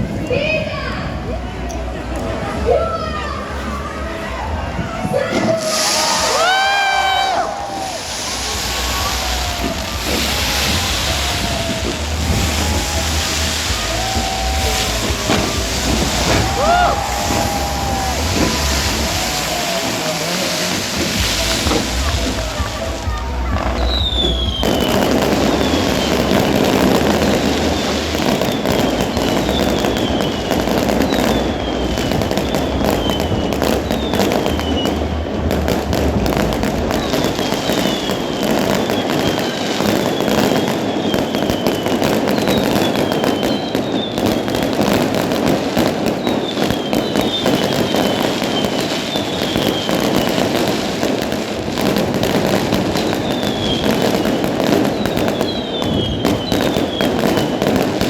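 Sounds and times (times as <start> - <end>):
fireworks bangs and crackling: 0.0 - 58.0
fireworks whistles falling in pitch: 5.0 - 58.0.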